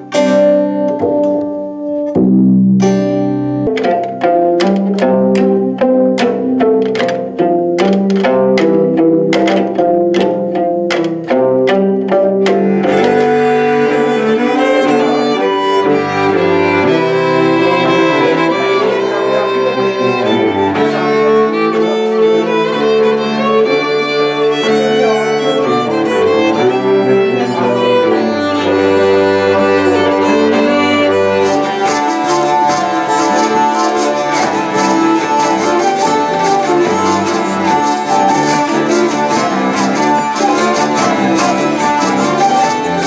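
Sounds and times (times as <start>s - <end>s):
fiddles and cello playing folk tune: 0.0s - 2.2s, 3.2s - 43.0s
rapid rhythmic string strokes: 0.0s - 43.0s.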